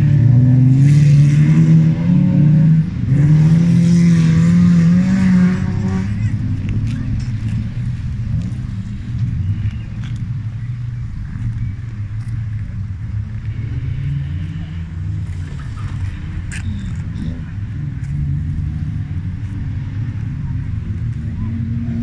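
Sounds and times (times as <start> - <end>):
race car engines revving: 0.0 - 22.0.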